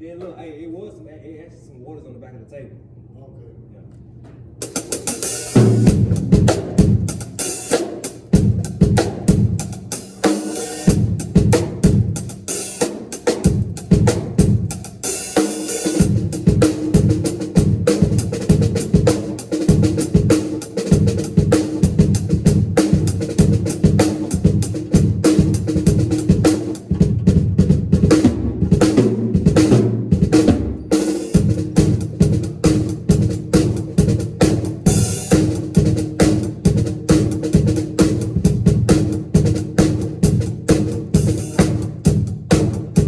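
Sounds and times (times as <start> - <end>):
drum kit playing rapid fills: 4.6 - 43.0.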